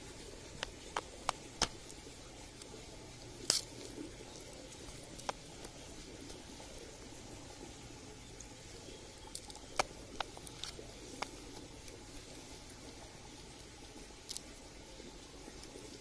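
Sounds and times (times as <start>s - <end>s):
soft wet squishes: 0.0s - 16.0s.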